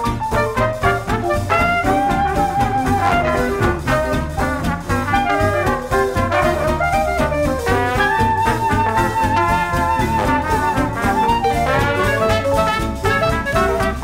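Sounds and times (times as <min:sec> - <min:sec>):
swing jazz with brass: 0:00.0 - 0:14.0.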